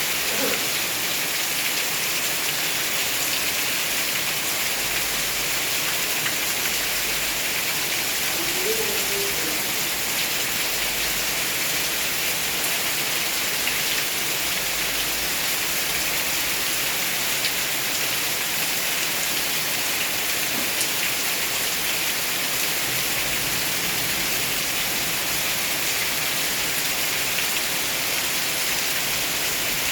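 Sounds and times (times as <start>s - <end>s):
rain hissing: 0.0s - 3.3s, 4.1s - 29.9s.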